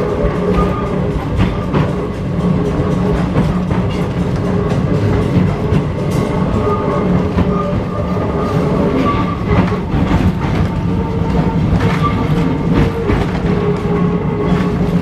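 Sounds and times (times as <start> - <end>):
tram rumbling on track: 0.0 - 15.0.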